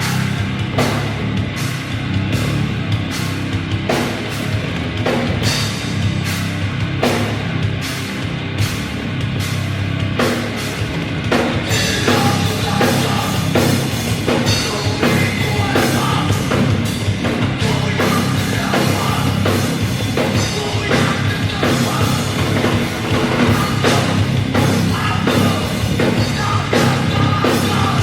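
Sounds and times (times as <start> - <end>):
drum kit beat: 0.0 - 28.0
heavy metal band playing: 0.0 - 28.0.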